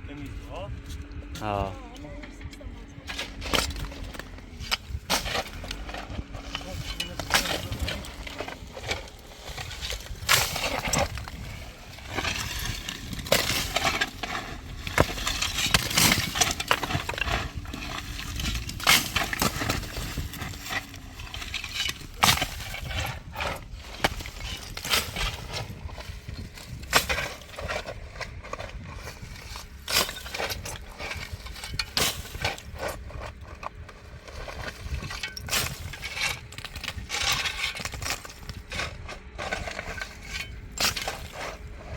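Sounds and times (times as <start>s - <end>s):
hard objects knocking and scraping: 2.2s - 41.9s.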